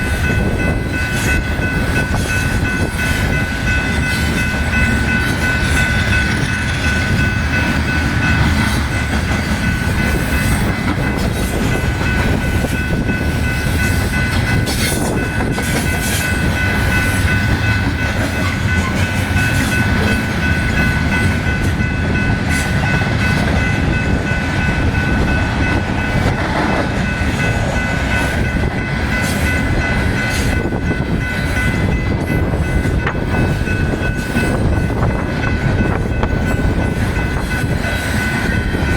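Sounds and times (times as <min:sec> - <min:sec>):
train cars rumbling past: 0:00.0 - 0:38.9
wheels squealing on rails: 0:00.0 - 0:38.9.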